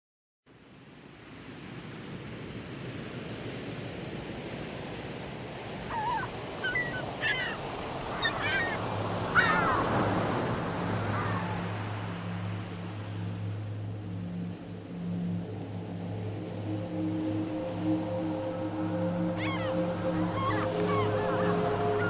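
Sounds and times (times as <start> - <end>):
sea waves washing on shore: 0.6 - 22.0.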